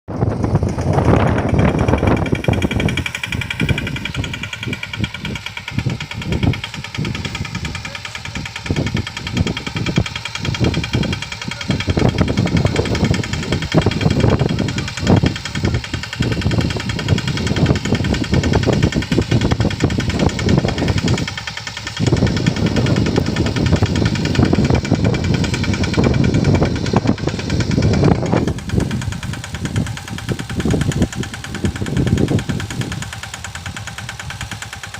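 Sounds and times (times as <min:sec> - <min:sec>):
higher-pitched hum: 0:00.1 - 0:32.9
farm vehicle engine running: 0:00.1 - 0:34.9.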